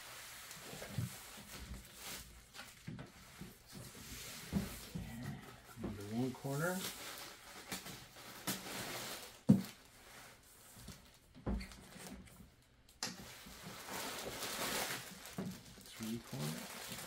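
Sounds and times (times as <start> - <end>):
plastic and foam rustling: 0.0 - 17.0.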